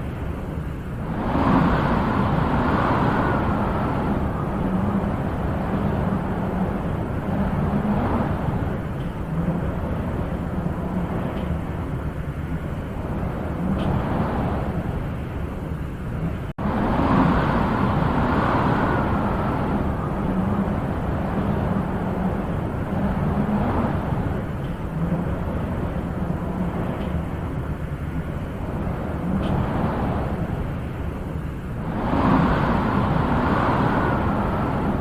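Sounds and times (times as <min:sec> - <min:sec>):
wind blowing in gusts: 0:00.0 - 0:35.0.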